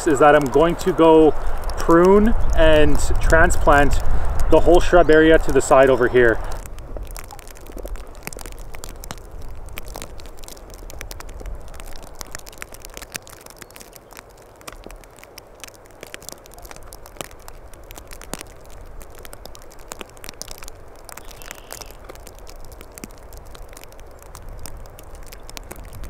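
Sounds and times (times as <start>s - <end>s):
twigs crackling: 0.0s - 26.0s
wind rumble on microphone: 0.0s - 26.0s.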